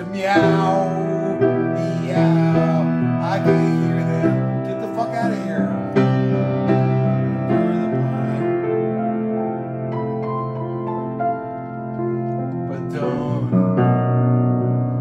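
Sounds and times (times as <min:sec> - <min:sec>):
piano playing sustained chords: 0:00.0 - 0:15.0.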